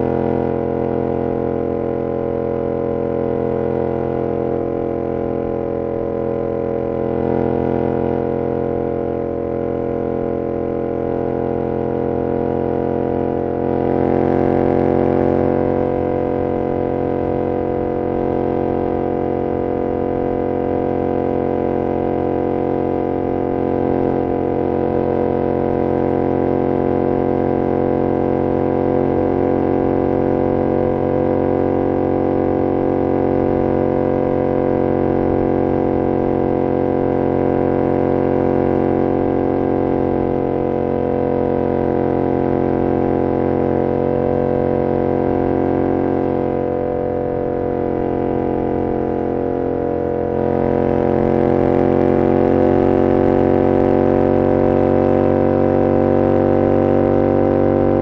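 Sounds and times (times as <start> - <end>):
motorcycle engine droning: 0.0 - 58.0.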